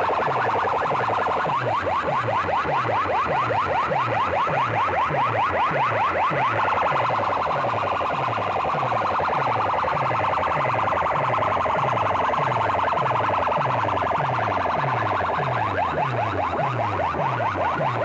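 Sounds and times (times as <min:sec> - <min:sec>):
electronic siren-like warble: 0:00.0 - 0:18.0.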